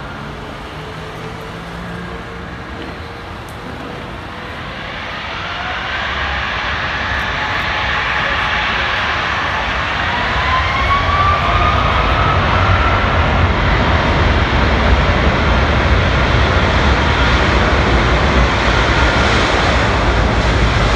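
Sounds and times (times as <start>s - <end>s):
jet engine whine rising: 0.0s - 20.9s
jet engines running: 0.0s - 20.9s.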